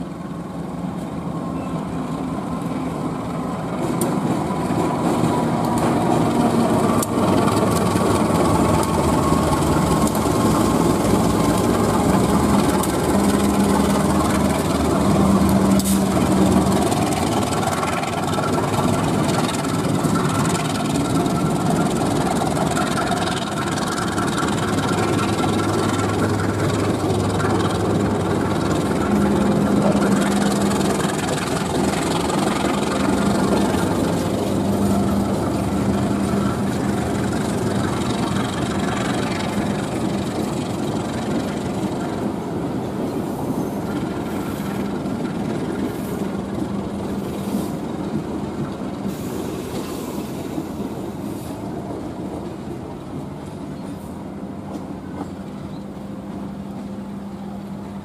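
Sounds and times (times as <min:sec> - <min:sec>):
train engine hum: 0:00.0 - 0:58.0
train wheels clacking on rails: 0:02.6 - 0:58.0.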